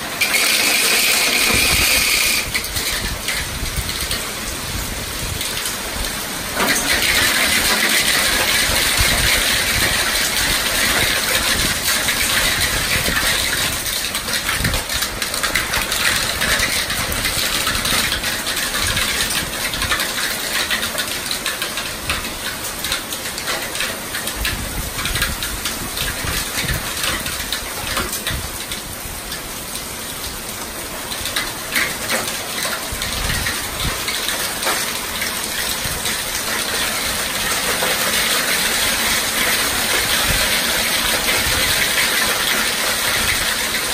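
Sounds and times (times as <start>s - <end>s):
hail and heavy rain on pavement: 0.0s - 43.9s.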